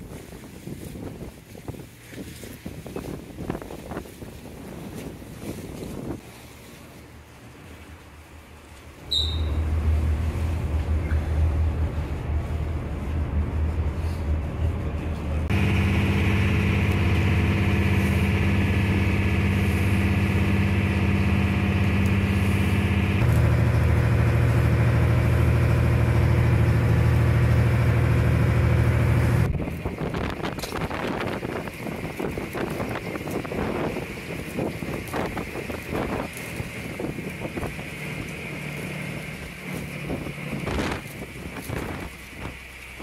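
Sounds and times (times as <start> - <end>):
rushing wind: 0.0 - 6.9, 9.1 - 43.0
churning water: 0.0 - 43.0
ferry engine droning: 6.4 - 43.0.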